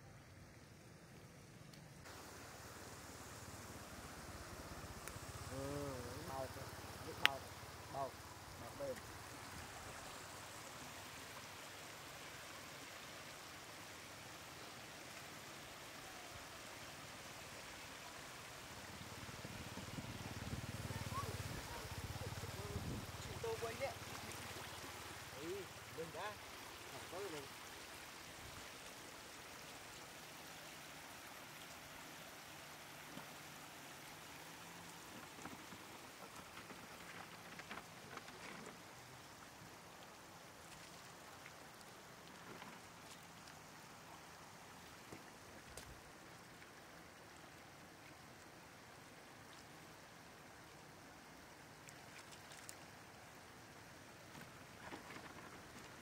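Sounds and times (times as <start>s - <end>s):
shallow water rushing: 2.1s - 56.0s.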